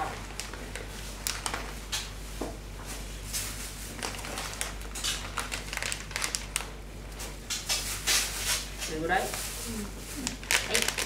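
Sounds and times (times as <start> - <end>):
plastic packaging crinkling: 0.0 - 2.2, 3.3 - 11.0.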